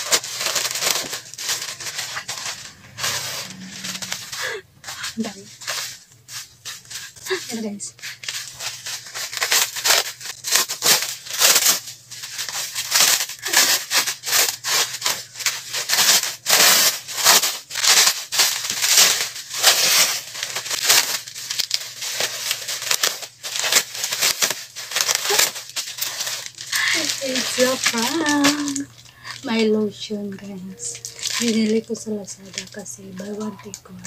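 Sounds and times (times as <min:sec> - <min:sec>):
plastic wrap crinkling: 0:00.0 - 0:34.0.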